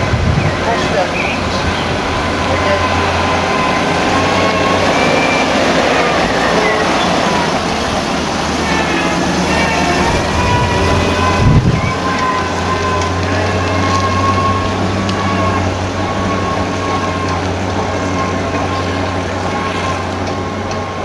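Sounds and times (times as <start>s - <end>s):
fire engine driving away: 0.0s - 21.0s.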